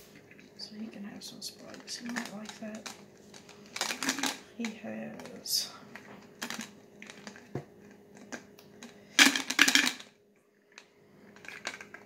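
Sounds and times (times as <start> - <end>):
objects rattling in plastic bottle: 0.1 - 7.6, 8.2 - 10.1, 11.3 - 12.0.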